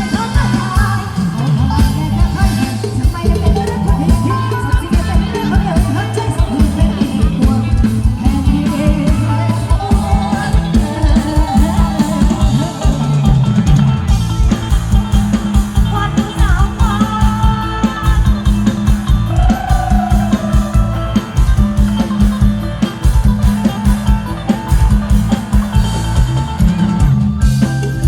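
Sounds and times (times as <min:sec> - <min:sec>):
live band music: 0:00.0 - 0:28.0
quick drum beat: 0:00.0 - 0:28.0.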